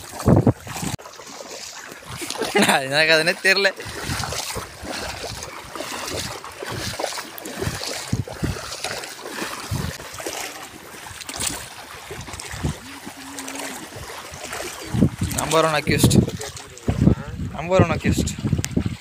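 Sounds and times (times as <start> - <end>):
wind buffeting microphone: 0.0 - 1.0, 3.8 - 19.0
water lapping: 0.0 - 19.0.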